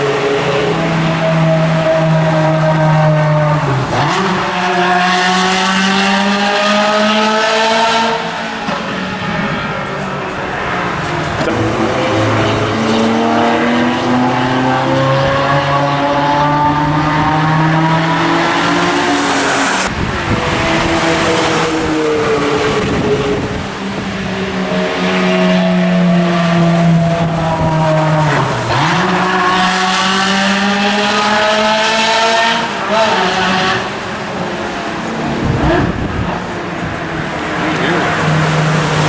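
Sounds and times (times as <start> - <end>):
racing car engine accelerating: 0.0 - 39.0.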